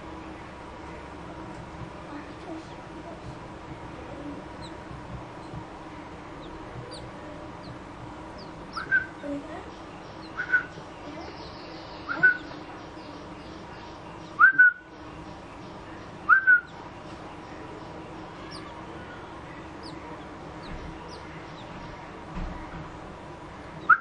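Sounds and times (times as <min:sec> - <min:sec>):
nestlings cheeping: 0:02.7 - 0:22.3.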